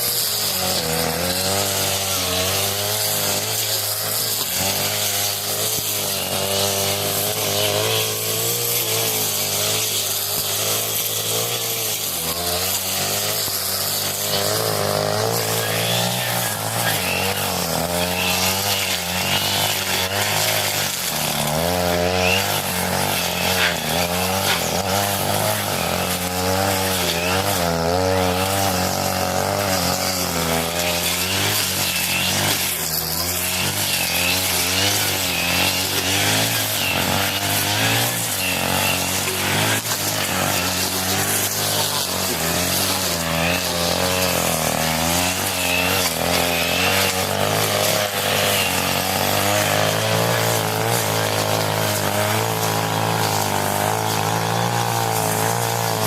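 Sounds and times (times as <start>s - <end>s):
brush cutter engine high revs: 0.0s - 56.0s.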